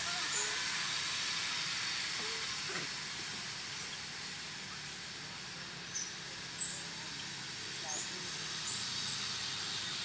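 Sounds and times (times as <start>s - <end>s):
steady high hiss: 0.0s - 10.0s.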